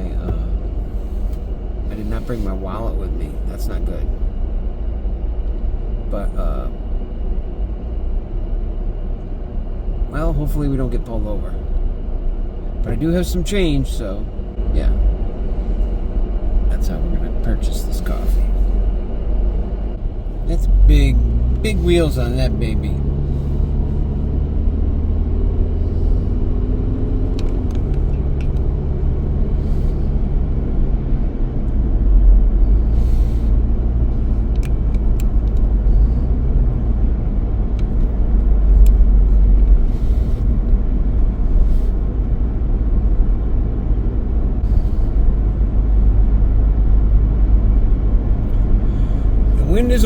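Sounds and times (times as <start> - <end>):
car road noise rumble: 0.0 - 50.0.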